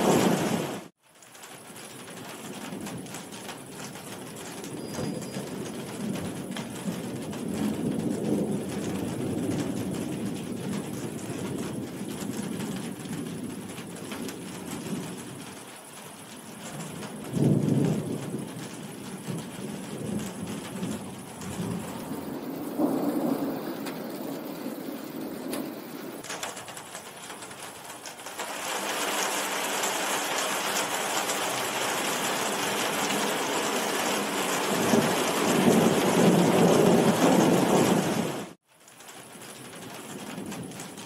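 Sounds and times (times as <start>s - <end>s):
thunder rumbling: 0.0s - 0.9s, 2.2s - 28.1s, 30.6s - 38.6s, 39.8s - 41.0s
heavy rain falling: 0.0s - 41.0s.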